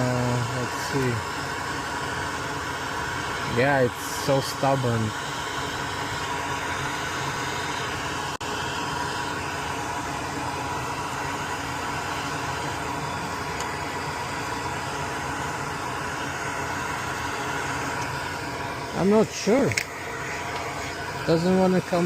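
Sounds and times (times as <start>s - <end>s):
fan whirring hiss: 0.0s - 22.0s.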